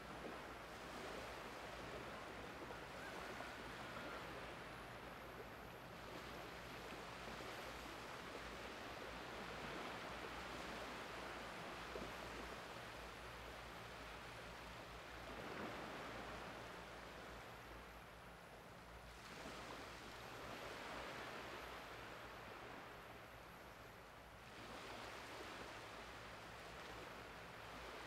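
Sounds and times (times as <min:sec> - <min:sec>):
small waves washing on beach: 0:00.0 - 0:28.0.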